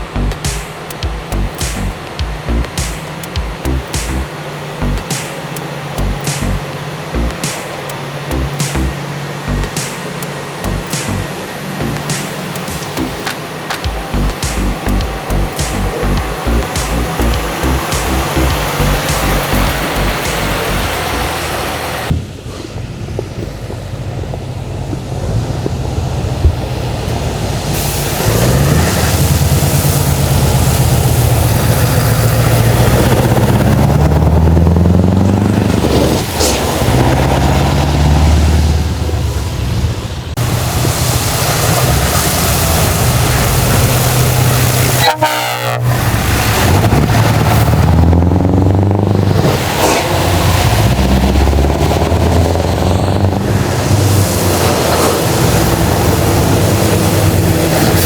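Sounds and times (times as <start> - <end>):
truck diesel engines revving: 0.0 - 58.0.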